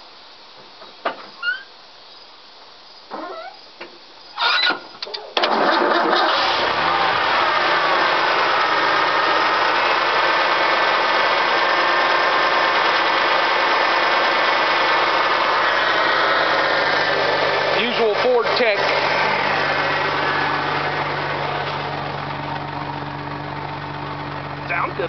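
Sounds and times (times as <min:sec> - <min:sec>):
truck engine starting and idling: 0:04.4 - 0:25.0.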